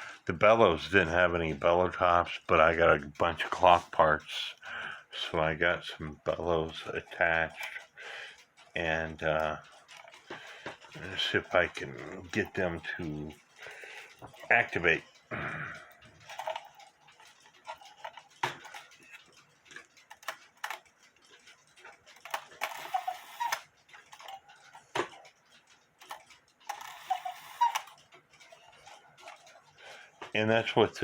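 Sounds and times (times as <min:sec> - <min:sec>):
clock mechanism clicks and knocks: 0:00.0 - 0:31.0.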